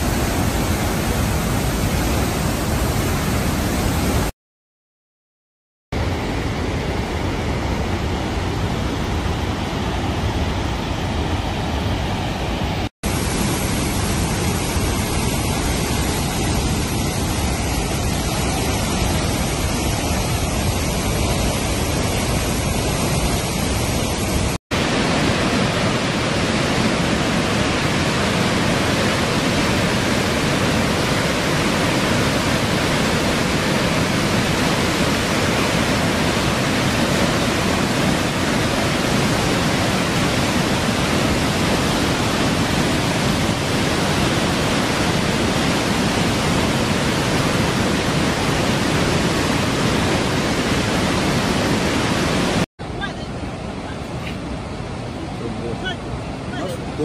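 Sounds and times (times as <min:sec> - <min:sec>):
roar of rushing white water: 0:00.0 - 0:04.3, 0:06.0 - 0:57.0.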